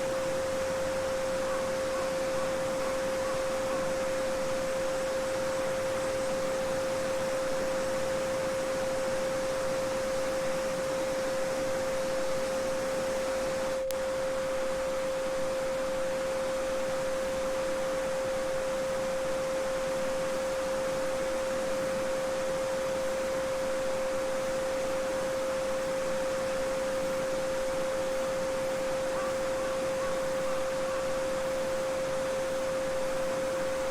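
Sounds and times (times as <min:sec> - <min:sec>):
steady sine tone: 0:00.0 - 0:33.9.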